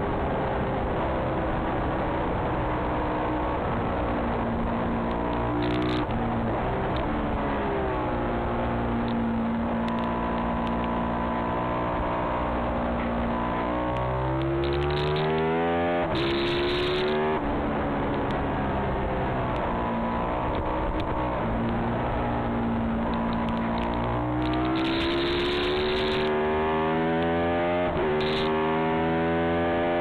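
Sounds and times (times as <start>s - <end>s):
motorcycle engine revving: 3.3s - 30.0s.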